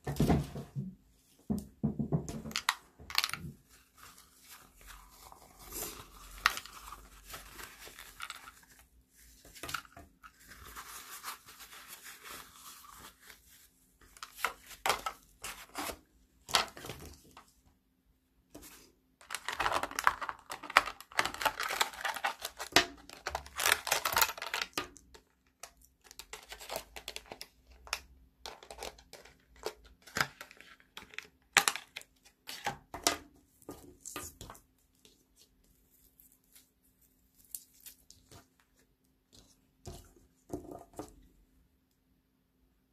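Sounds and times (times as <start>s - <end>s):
plastic and paper crinkling: 2.5s - 17.5s, 18.6s - 33.0s, 33.6s - 41.2s.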